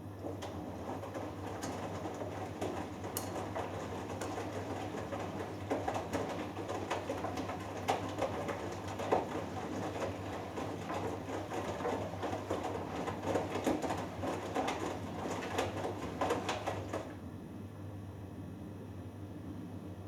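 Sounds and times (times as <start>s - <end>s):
washing machine motor hum: 0.0s - 17.6s
laundry sloshing and knocking: 0.2s - 17.2s.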